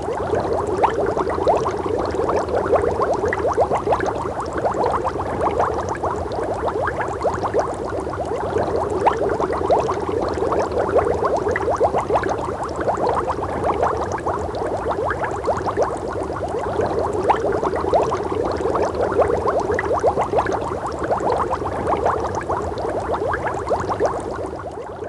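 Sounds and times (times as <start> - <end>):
boiling water bubbling: 0.0 - 25.0.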